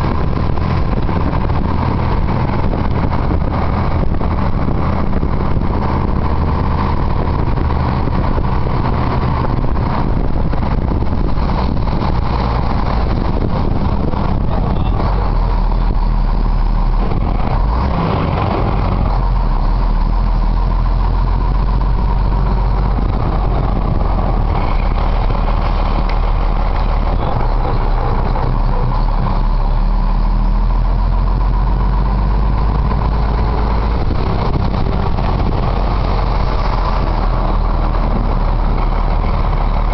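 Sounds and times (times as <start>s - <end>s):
road and wind noise: 0.0s - 39.9s
truck engine running: 0.0s - 39.9s.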